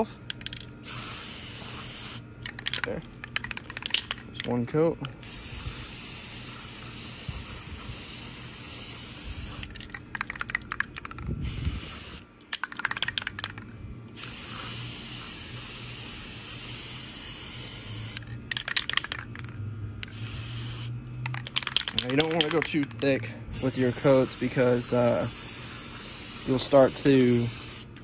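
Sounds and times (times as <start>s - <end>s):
spray paint can hissing: 0.3s - 4.2s, 5.2s - 28.0s
spray can rattling: 0.3s - 28.0s.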